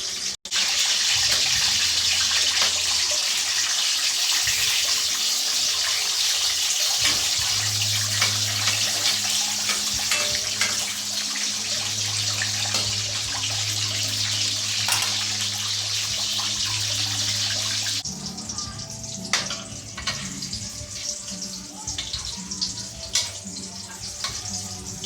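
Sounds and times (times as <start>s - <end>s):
water running from tap: 0.0s - 25.0s.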